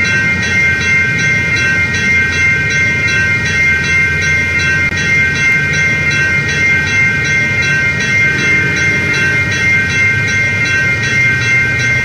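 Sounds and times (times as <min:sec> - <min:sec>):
pulsing ringing tone: 0:00.0 - 0:12.0
train rumbling: 0:00.0 - 0:12.0.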